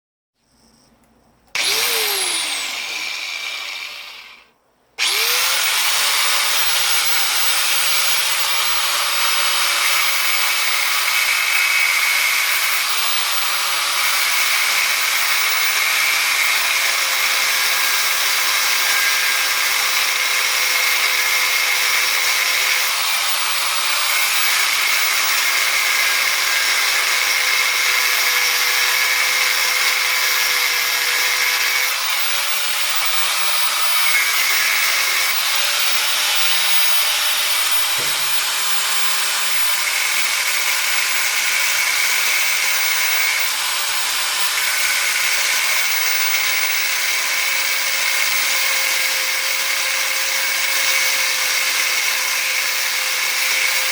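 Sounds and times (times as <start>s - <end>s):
angle grinder whining: 1.5s - 53.9s
grinder grinding metal casing: 1.6s - 4.4s, 5.0s - 53.9s.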